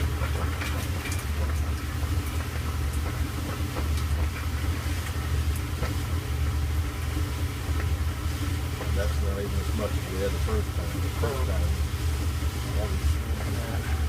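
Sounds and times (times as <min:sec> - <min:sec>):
clothes dryer humming: 0:00.0 - 0:14.0.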